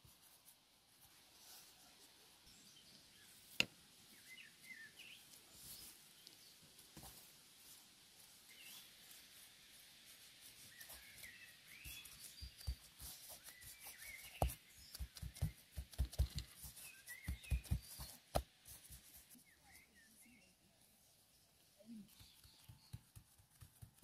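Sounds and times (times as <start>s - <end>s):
small birds chirping: 1.6s - 24.0s.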